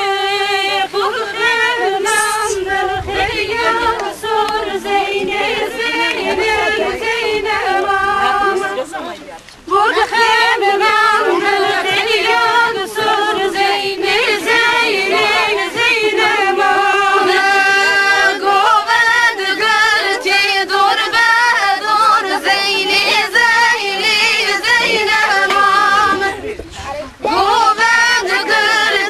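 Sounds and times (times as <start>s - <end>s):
women and girls singing in unison: 0.0s - 29.0s.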